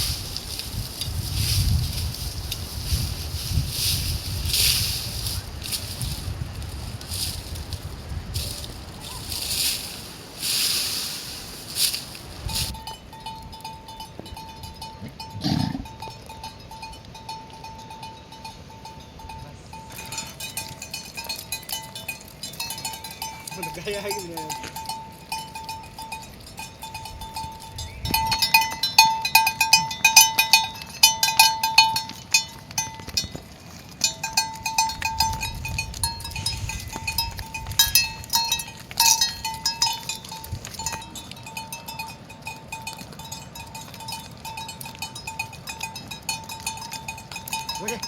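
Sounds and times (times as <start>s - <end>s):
livestock bells clinking: 0.0s - 48.0s.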